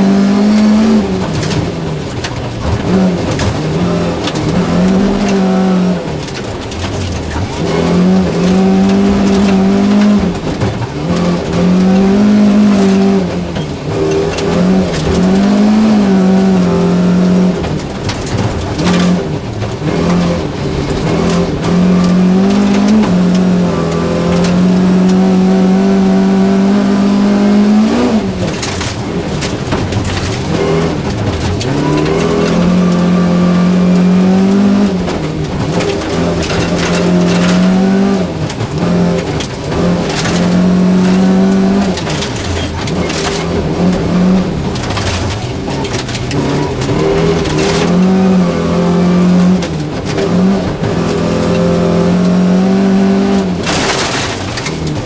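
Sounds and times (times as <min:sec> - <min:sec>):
car engine at high revs: 0:00.0 - 0:55.0
gravel hitting car underbody: 0:00.0 - 0:55.0.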